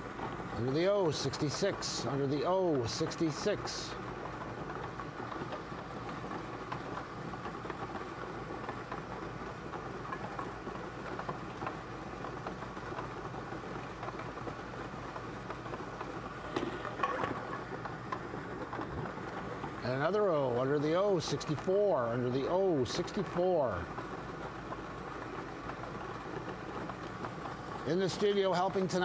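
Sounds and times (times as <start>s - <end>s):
ball blower machine running: 0.0s - 29.0s.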